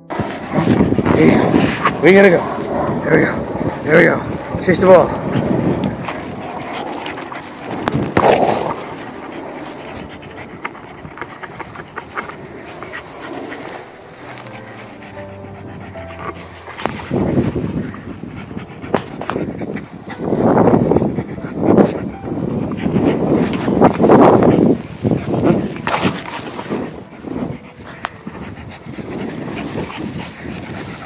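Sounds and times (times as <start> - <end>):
dog panting: 0.1 - 31.0.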